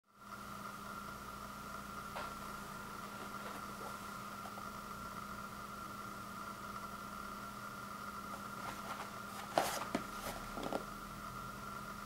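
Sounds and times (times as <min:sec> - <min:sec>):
background hum: 0:00.1 - 0:12.0.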